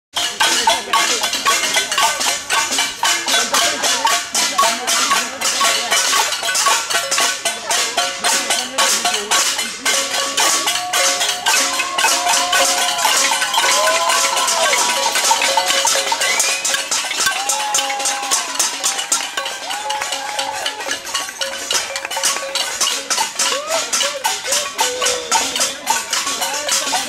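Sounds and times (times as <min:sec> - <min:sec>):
fast dense percussion: 0:00.1 - 0:27.0.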